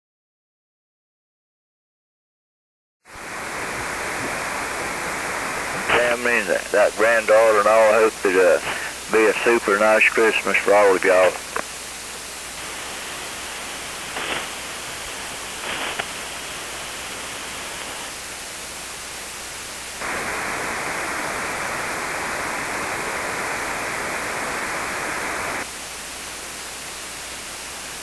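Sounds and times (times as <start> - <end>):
radio static hiss: 3.1 - 28.0
short static bursts: 3.1 - 28.0.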